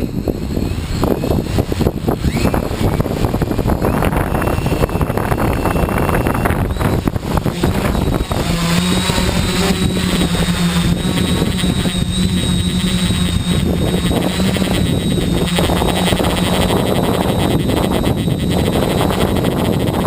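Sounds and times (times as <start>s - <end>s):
drone propellers buzzing: 0.0s - 20.0s
wind buffeting microphone: 0.0s - 20.0s.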